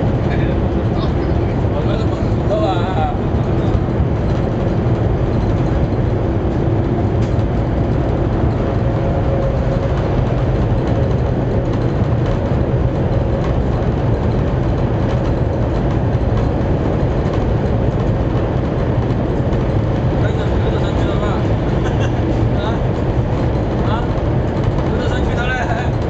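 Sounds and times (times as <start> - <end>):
train cabin rumble and rush: 0.0 - 26.0.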